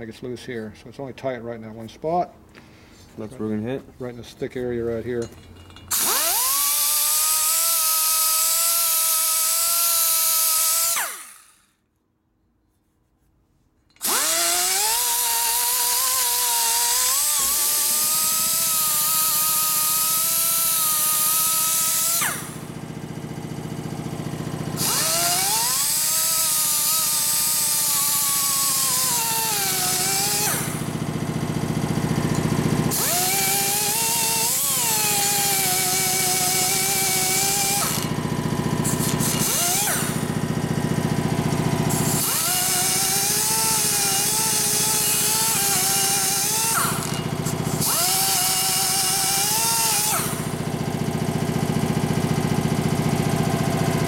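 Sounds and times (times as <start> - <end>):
die grinder high whine: 5.9 - 11.7, 14.0 - 54.0.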